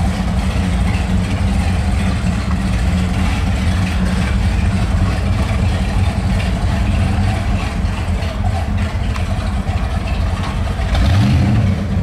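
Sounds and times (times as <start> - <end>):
powerboat engines idling: 0.0 - 12.0.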